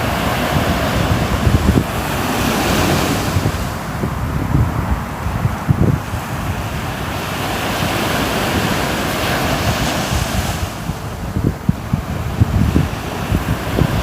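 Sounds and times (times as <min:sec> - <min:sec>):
ocean waves washing on shore: 0:00.0 - 0:14.0
wind buffeting microphone: 0:00.0 - 0:14.0.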